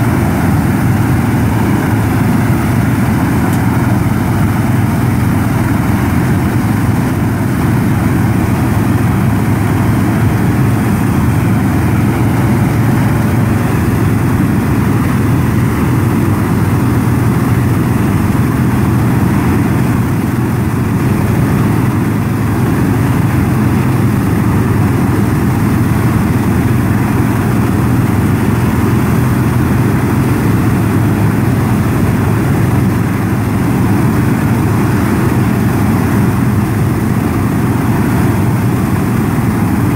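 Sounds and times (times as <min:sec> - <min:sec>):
rushing flame noise: 0:00.0 - 0:39.9
tractor engine drone: 0:00.0 - 0:39.9.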